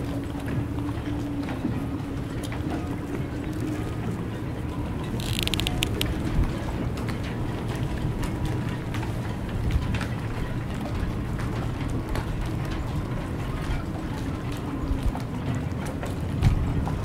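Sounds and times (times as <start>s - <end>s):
waves slapping boat hulls: 0.0s - 17.0s
wind: 0.0s - 17.0s.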